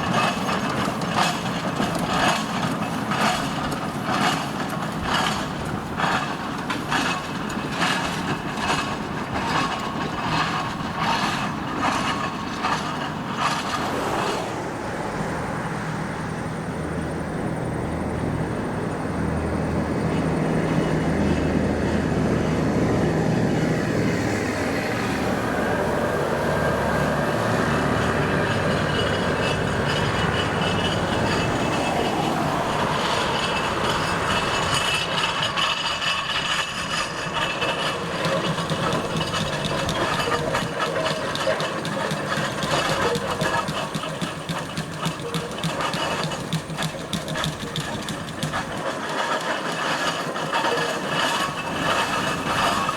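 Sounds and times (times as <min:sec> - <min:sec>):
steam traction engine running: 0:00.0 - 0:52.9.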